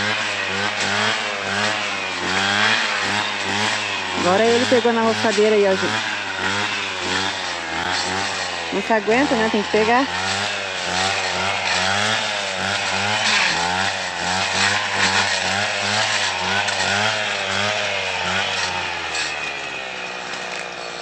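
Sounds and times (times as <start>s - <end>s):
brush cutter engine running: 0.0s - 21.0s.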